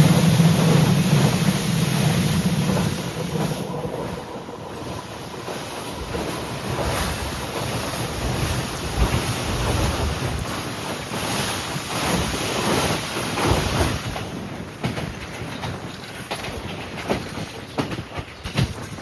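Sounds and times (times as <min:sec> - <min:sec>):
train rushing on rails: 0:00.0 - 0:19.0
wheels clicking over rail joints: 0:00.0 - 0:19.0.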